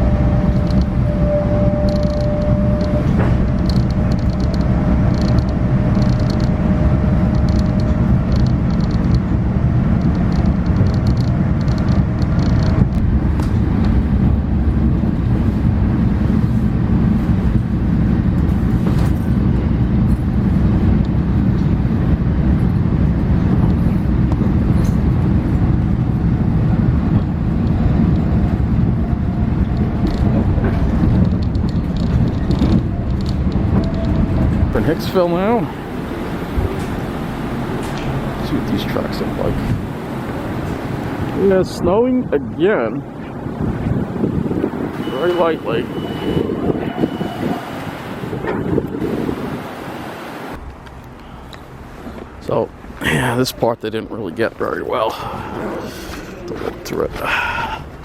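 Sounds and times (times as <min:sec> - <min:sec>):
train rumble from on board: 0:00.0 - 0:53.4, 0:54.5 - 0:58.0.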